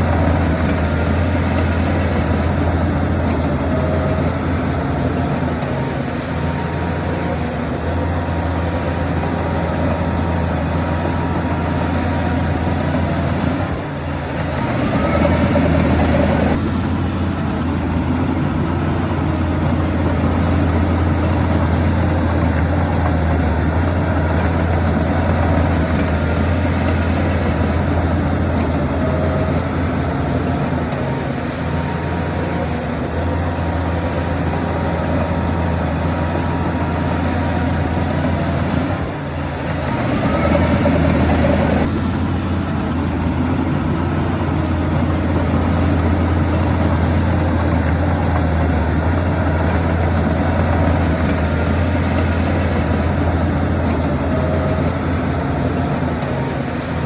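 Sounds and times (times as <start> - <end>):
heavy machinery diesel engines humming: 0.0 - 57.0.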